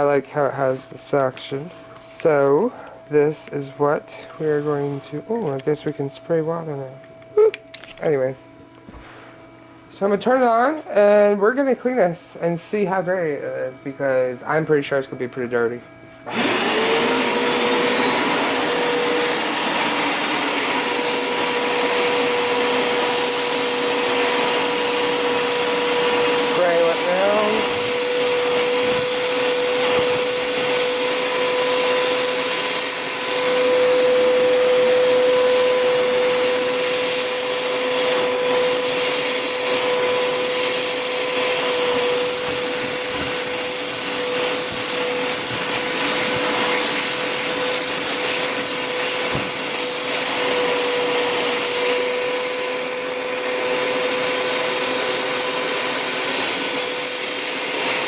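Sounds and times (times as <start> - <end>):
carpet cleaner motor whine: 0.0 - 58.0.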